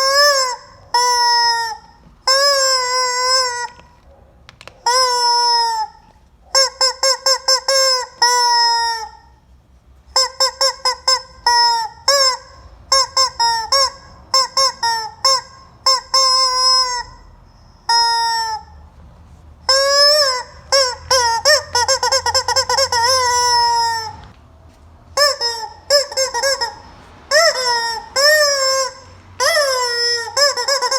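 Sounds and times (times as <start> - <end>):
rubber chicken toy squeaking: 0.0 - 4.0, 4.6 - 9.4, 10.1 - 18.8, 19.6 - 24.4, 25.1 - 30.9.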